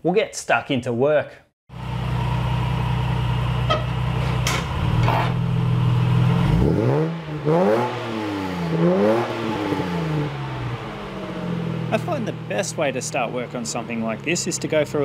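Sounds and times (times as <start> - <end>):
car engine running: 1.7 - 15.0
engine revving: 1.7 - 15.0.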